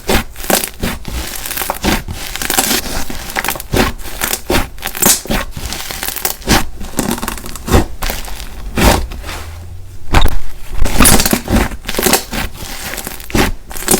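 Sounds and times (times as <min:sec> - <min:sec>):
crunching and crackling: 0:00.0 - 0:13.9
slime squished by hand: 0:00.0 - 0:13.9.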